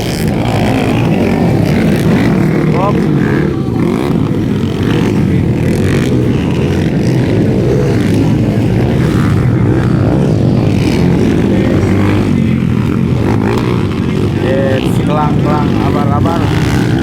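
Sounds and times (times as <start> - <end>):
motorcycle engines racing: 0.0 - 17.0.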